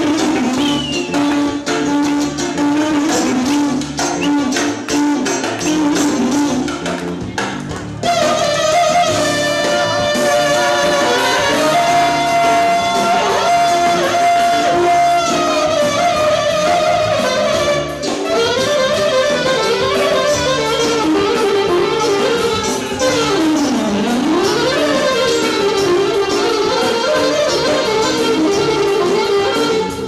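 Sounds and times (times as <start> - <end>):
saxophone melody: 0.0 - 6.9, 8.0 - 30.0
live band accompaniment: 0.0 - 30.0.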